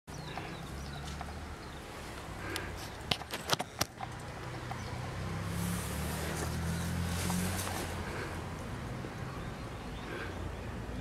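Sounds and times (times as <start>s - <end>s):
distant road traffic hum: 0.1s - 11.0s.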